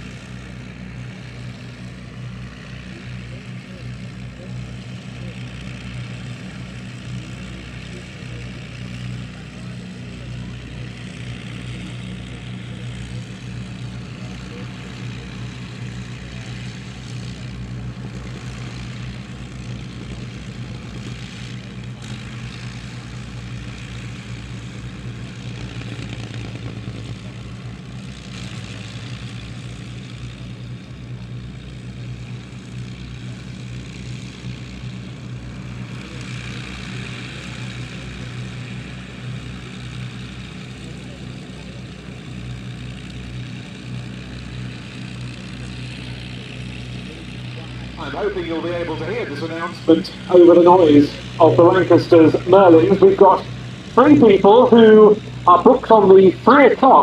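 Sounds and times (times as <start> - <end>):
aircraft engines droning: 0.0 - 57.0.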